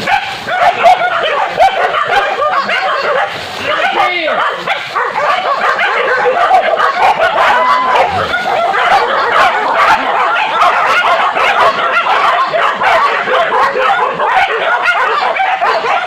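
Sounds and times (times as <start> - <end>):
dogs yelping and baying: 0.0 - 16.0.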